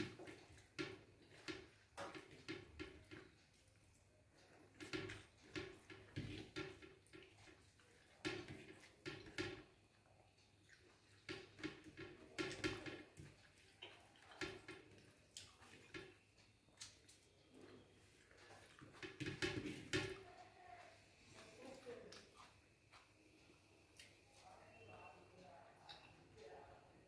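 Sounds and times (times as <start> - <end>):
fingers mixing rice on a plate: 0.0 - 27.0.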